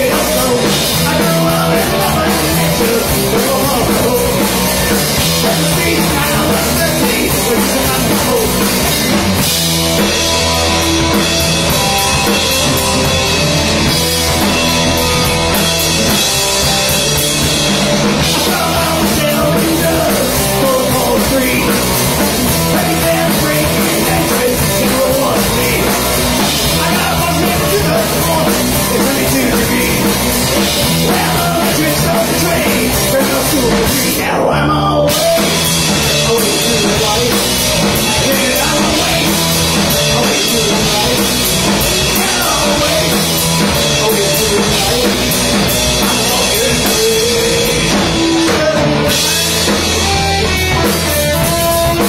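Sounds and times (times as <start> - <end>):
punk rock band playing: 0.0 - 52.0.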